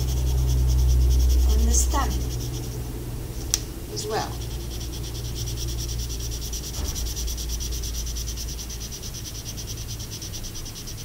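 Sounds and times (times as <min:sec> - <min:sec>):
marker scratching on paper: 0:00.0 - 0:02.9, 0:03.9 - 0:11.0.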